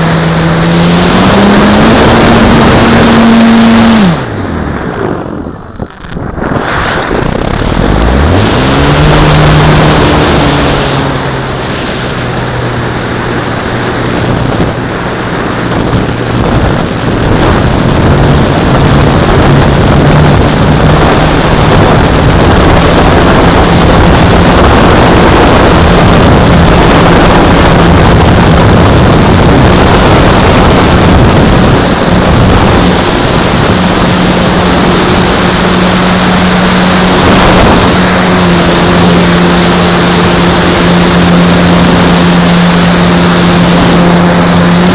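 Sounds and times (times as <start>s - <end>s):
model plane motor and propeller: 0.0s - 4.5s, 5.6s - 44.9s.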